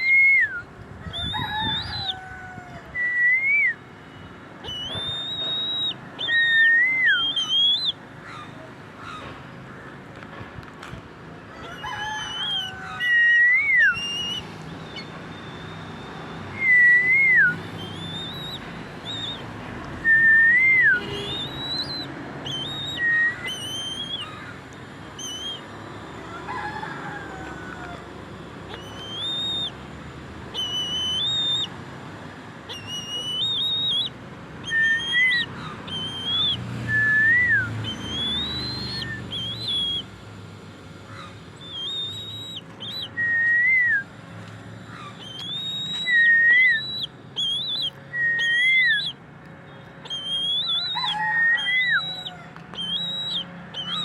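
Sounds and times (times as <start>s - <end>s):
rising and falling whistled bird call: 0.0s - 8.0s, 11.6s - 24.5s, 25.1s - 28.0s, 28.7s - 29.8s, 30.5s - 31.8s, 32.7s - 40.1s, 41.6s - 44.1s, 44.8s - 49.2s, 50.0s - 54.0s.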